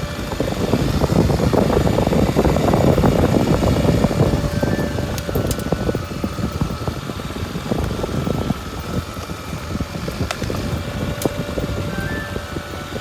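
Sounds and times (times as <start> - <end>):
knocks and rattles from rough track: 0.0 - 13.0
motorcycle engine rumbling: 0.0 - 13.0.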